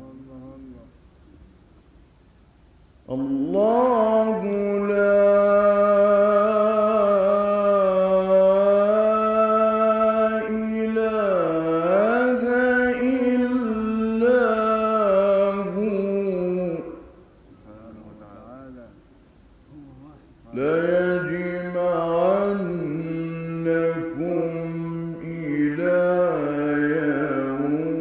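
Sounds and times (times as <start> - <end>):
man reciting in melismatic chant: 0.0 - 1.0, 3.0 - 19.0, 19.6 - 28.0.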